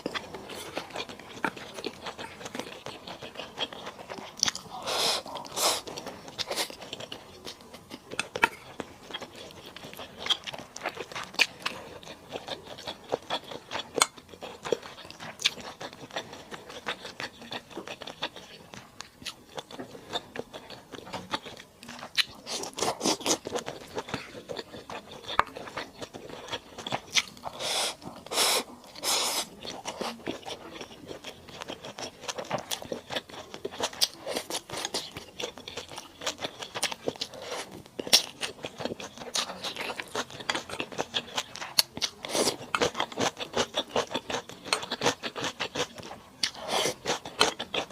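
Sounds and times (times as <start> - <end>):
chewing and crunching food: 0.0 - 47.9.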